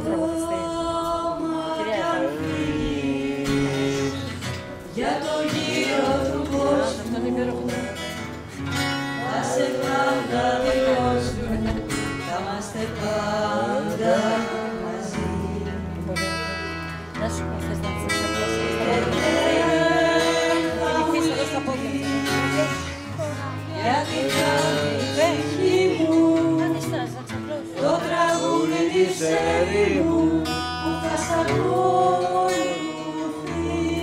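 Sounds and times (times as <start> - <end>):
woman singing into microphone: 0.0 - 8.2, 9.2 - 16.0, 17.2 - 34.0
strummed acoustic guitar: 0.0 - 34.0.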